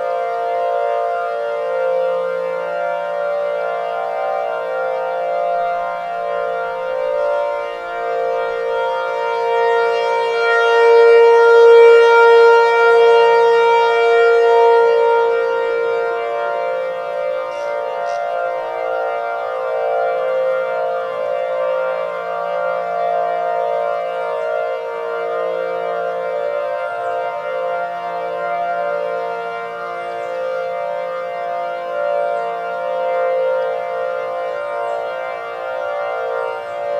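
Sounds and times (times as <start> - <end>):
layered warning sirens: 0.0 - 36.9.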